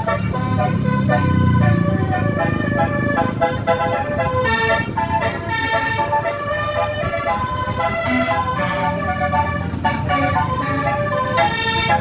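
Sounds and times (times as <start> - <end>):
bus engine running: 0.0 - 12.0
multi-tone air horn melody: 0.0 - 12.0.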